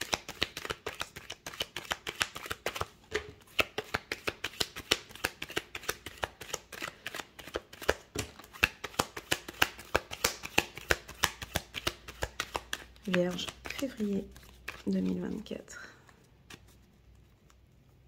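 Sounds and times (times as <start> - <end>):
cards being shuffled: 0.0 - 18.0.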